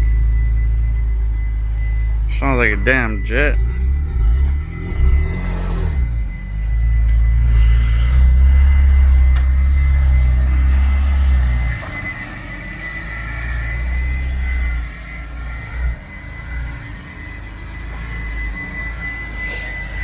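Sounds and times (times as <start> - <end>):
car engine rumbling: 0.0 - 20.0
steady high whine: 0.0 - 20.0.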